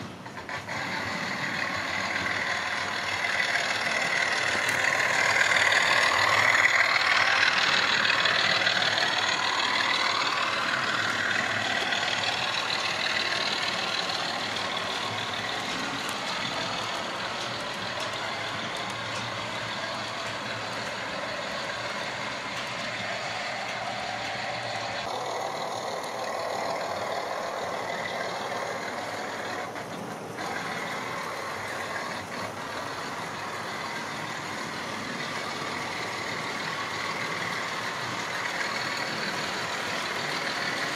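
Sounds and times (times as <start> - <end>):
model train motors whirring: 0.0 - 40.9.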